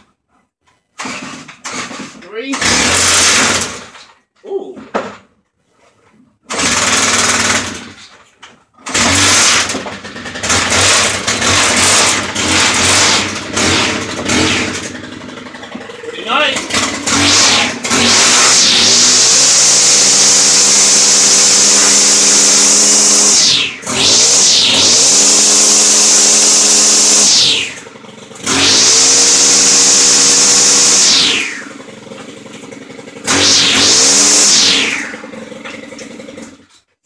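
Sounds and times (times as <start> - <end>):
small engine revving: 1.0 - 4.0, 6.5 - 8.0, 8.8 - 36.8.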